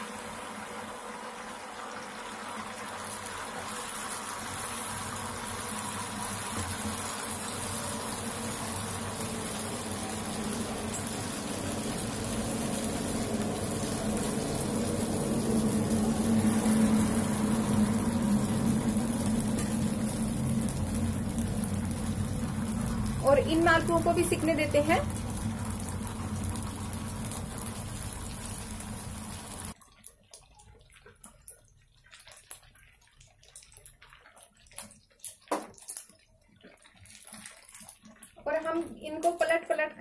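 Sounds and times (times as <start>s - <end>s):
batter sizzling and bubbling in oil: 0.0s - 40.0s.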